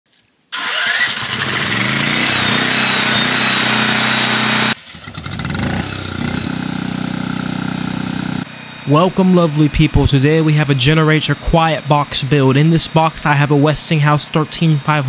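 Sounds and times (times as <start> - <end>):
portable generator running: 0.6 - 15.0.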